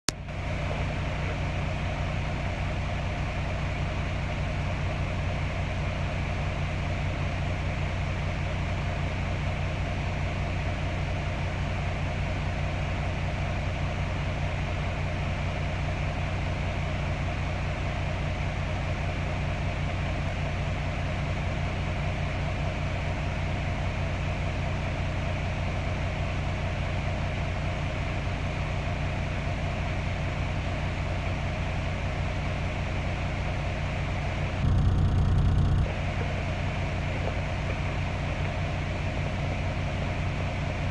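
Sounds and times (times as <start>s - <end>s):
engine idling: 0.1s - 40.9s.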